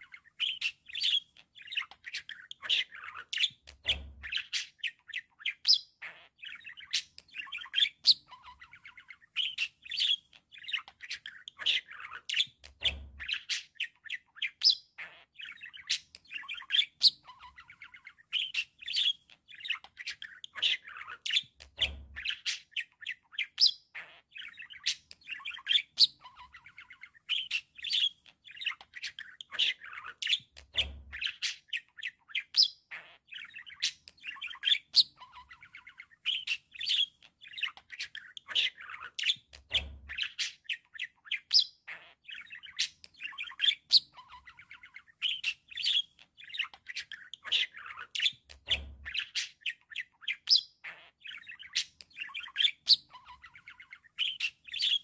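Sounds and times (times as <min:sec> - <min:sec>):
budgerigars warbling and chattering: 0:00.0 - 0:55.0.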